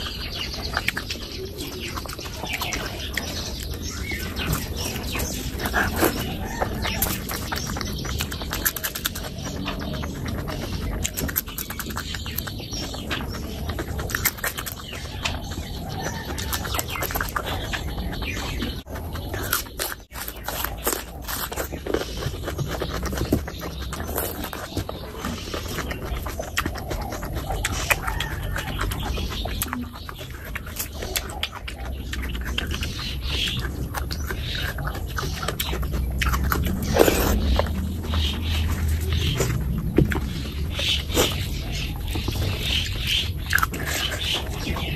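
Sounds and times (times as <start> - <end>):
wet chewing and smacking: 0.0 - 44.9.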